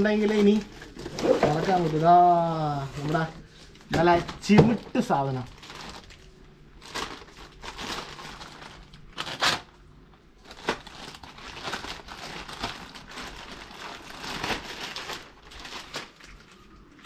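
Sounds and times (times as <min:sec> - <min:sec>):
sharp loud plastic crackle: 0:00.0 - 0:02.3, 0:03.8 - 0:09.8, 0:10.4 - 0:17.0
plastic bag crinkling: 0:00.0 - 0:17.0.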